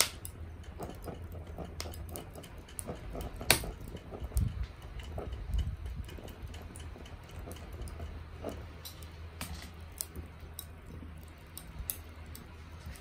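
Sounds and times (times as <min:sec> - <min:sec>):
charcoal crackling and popping: 0:00.0 - 0:13.0
steady low hum: 0:00.0 - 0:13.0.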